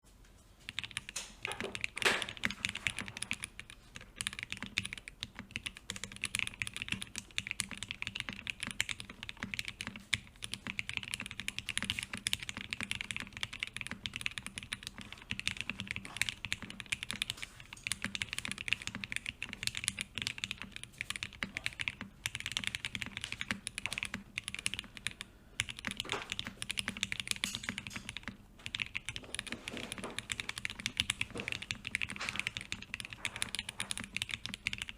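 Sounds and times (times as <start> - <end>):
mechanical keyboard typing: 0.6 - 34.9.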